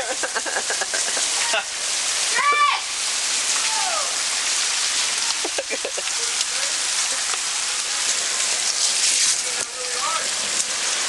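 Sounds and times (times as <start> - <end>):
heavy rain on hard surfaces: 0.0 - 11.0.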